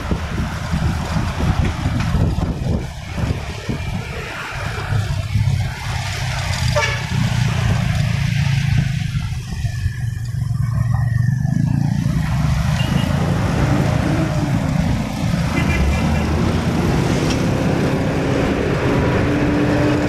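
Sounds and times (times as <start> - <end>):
motorcycle engine hum: 0.0 - 20.0
road noise: 0.0 - 20.0.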